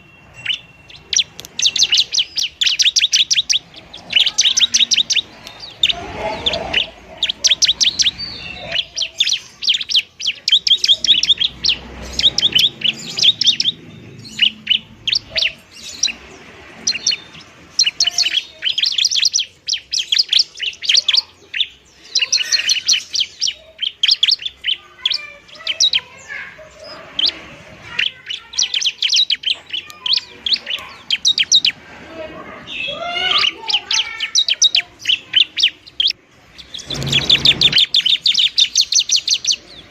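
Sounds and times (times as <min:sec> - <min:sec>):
bird chirping rapidly: 0:00.0 - 0:31.9, 0:32.6 - 0:39.9.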